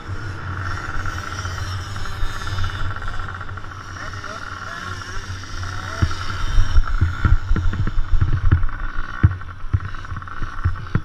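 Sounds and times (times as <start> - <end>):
dirt bikes buzzing: 0.0 - 11.0.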